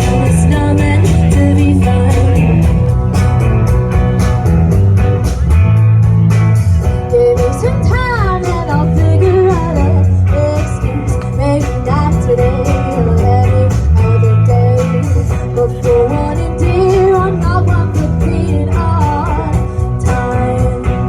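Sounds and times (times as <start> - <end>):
person singing: 0.0 - 2.9, 7.0 - 21.0
bass line: 0.0 - 21.0
electric guitar: 0.0 - 21.0
steady drum beat: 0.0 - 21.0.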